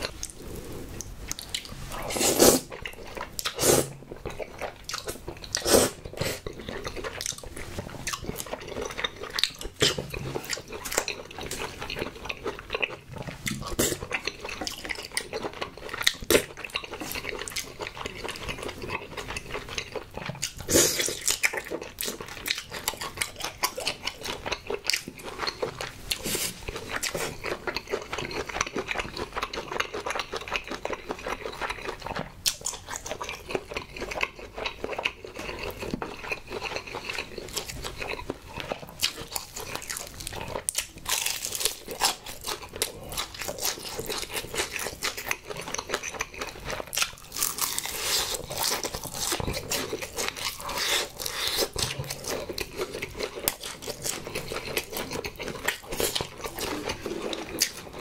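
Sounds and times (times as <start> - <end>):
chewing: 0.0 - 58.0.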